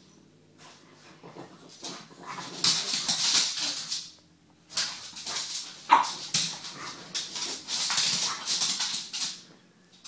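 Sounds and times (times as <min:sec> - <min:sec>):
dogs scuffling: 0:00.6 - 0:10.0.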